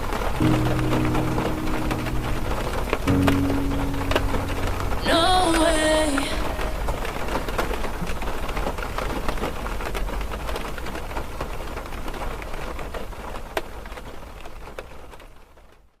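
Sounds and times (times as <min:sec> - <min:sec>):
raindrops hitting sharply: 0:00.0 - 0:15.8
steady rain: 0:00.0 - 0:16.0.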